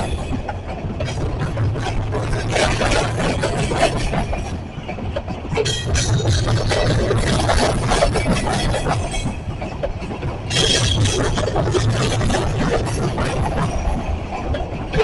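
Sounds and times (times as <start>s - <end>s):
diesel locomotive engine rumble: 0.0s - 15.0s
railcars clanking and rattling: 0.0s - 15.0s.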